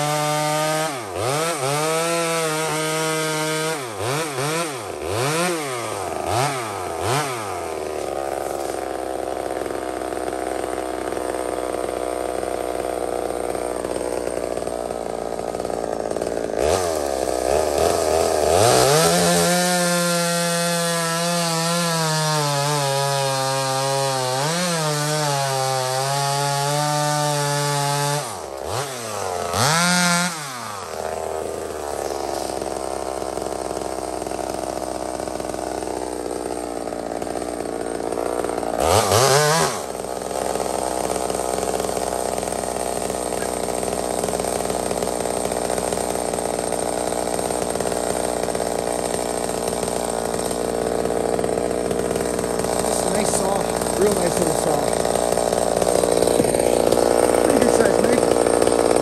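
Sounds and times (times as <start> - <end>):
chainsaw cutting log: 0.0 - 59.0
chainsaw idling and revving: 0.0 - 59.0.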